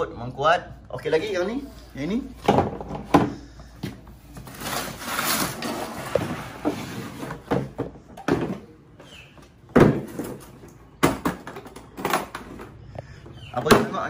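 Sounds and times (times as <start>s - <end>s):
plastic cases rustling and scraping: 1.8s - 14.0s.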